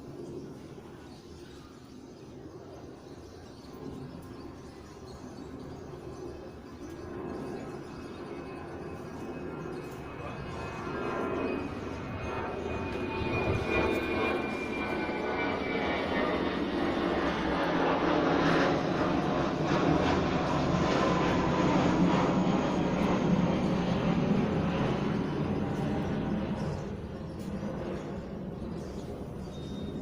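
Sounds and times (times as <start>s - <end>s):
aircraft passing overhead: 0.0s - 30.0s.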